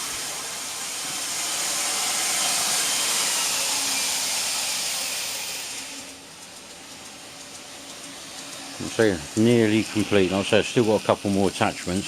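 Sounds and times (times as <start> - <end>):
belt grinder hissing: 0.0 - 12.0.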